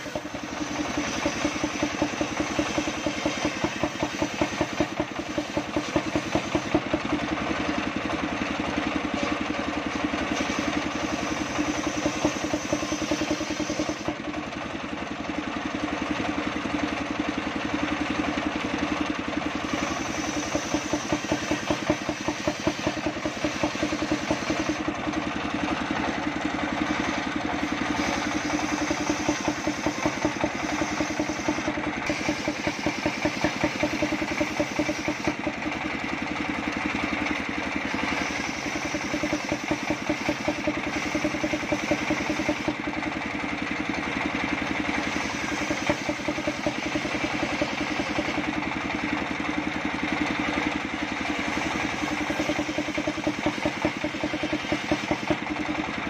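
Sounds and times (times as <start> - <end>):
circular saw cutting logs: 0.0 - 56.0
sawmill engine running: 0.0 - 56.0.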